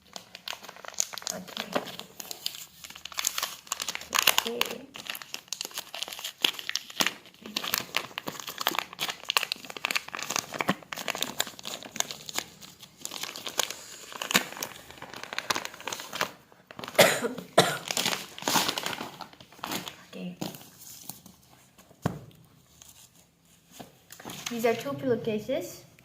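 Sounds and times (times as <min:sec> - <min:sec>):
packaging crinkling and rustling: 0:00.0 - 0:24.8.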